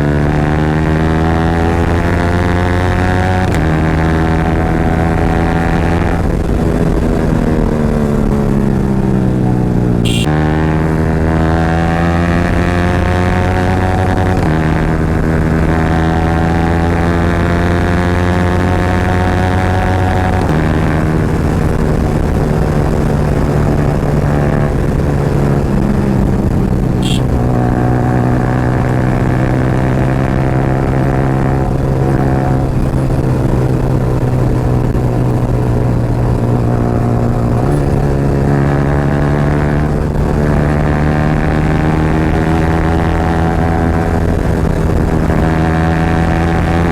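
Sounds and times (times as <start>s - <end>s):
motorcycle engine revving high: 0.0s - 46.9s.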